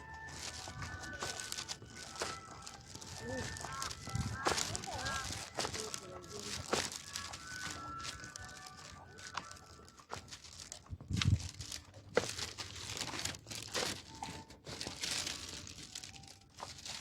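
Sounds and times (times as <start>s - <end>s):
close rustling and crinkling: 0.0s - 17.0s.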